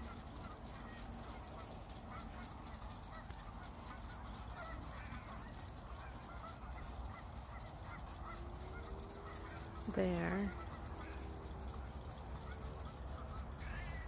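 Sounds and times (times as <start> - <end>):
geese honking: 0.0 - 14.0
sprinklers ticking: 0.0 - 14.0.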